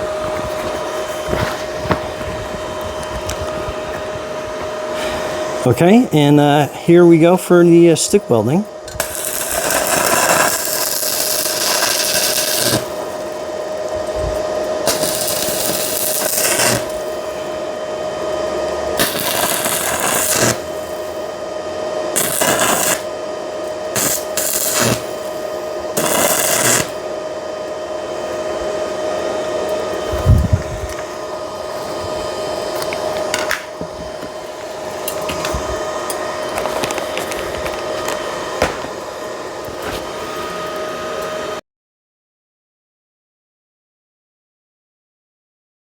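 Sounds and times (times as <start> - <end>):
welding arc crackling and hissing: 0.0 - 40.4
steady hum: 0.0 - 41.3.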